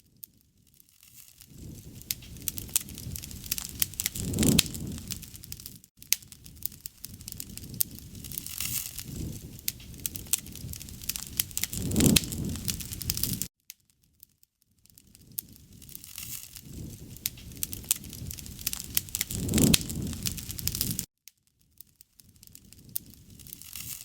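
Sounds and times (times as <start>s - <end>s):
wood fire crackling and popping: 0.1s - 13.5s, 14.8s - 24.0s
low rushing of flames: 1.4s - 13.5s, 15.0s - 21.1s, 22.2s - 24.0s.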